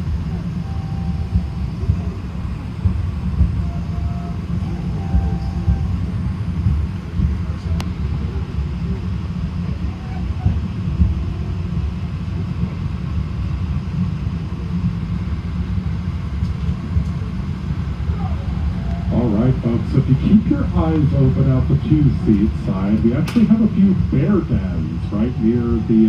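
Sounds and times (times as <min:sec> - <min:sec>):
train rumbling on steep grade: 0:00.0 - 0:26.0.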